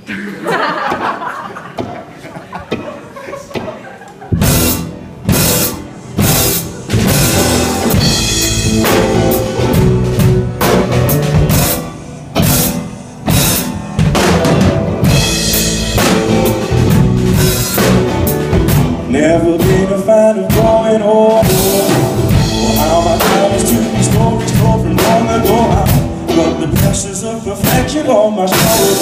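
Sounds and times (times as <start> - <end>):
blues band playing: 2.6 - 29.0
drum kit hits: 4.4 - 29.0.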